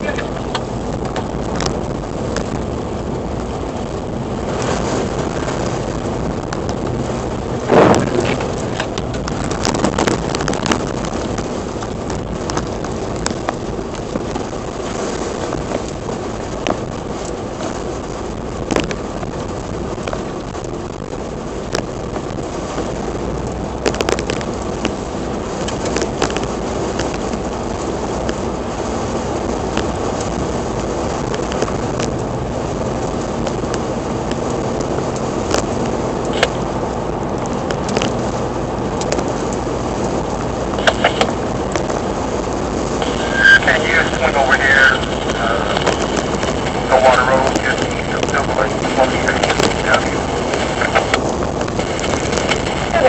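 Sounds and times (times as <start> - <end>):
crackles: 0.0 - 53.0
wind buffeting microphone: 0.0 - 53.0.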